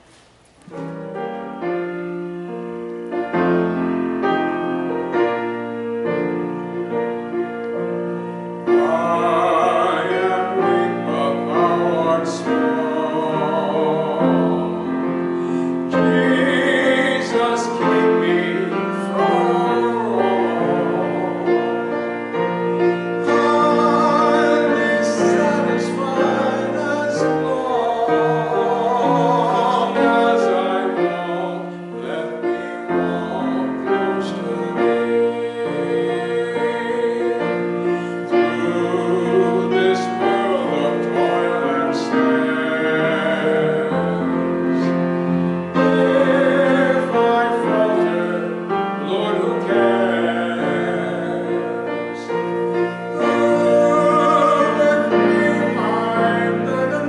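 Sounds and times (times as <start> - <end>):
piano playing: 0.0 - 57.0
man singing with vibrato: 8.0 - 57.0.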